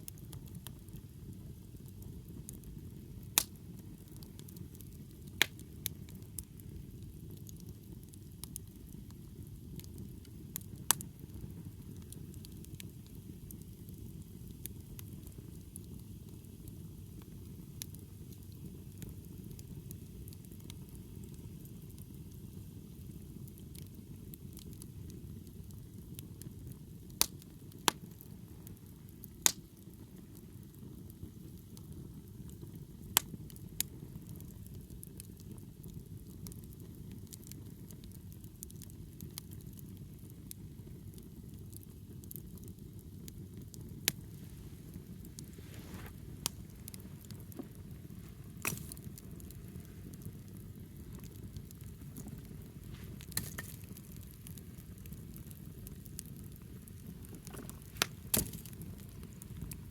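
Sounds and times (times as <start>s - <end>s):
fire crackling pops: 0.0s - 59.9s
wood fire burning: 0.0s - 59.9s.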